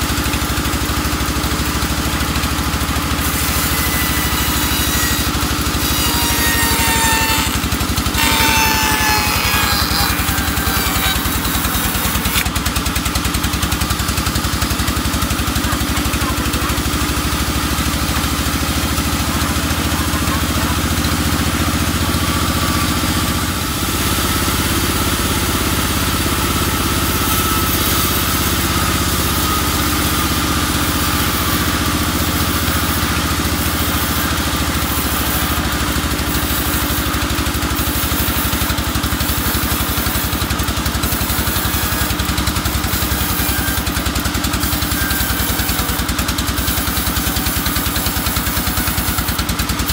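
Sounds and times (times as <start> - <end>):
saw blade whine: 0.0 - 49.9.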